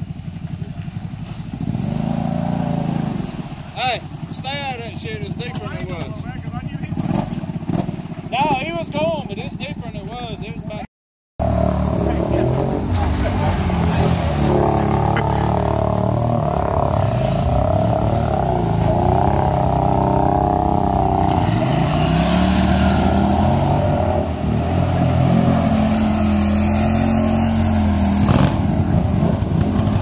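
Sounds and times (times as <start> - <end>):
rushing water: 0.1 - 6.0, 11.4 - 30.0
quad engines revving: 1.6 - 3.4, 4.1 - 9.8, 11.4 - 30.0.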